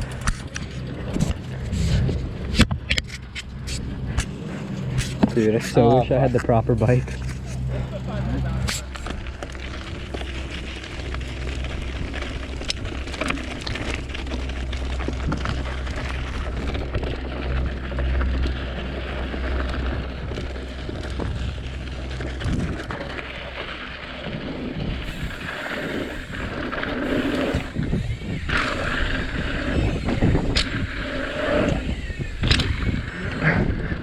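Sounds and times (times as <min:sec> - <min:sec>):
bike knocking and rattling: 0:00.0 - 0:34.0
tyres on dirt and rock: 0:00.0 - 0:34.0
wind buffeting microphone: 0:00.0 - 0:34.0.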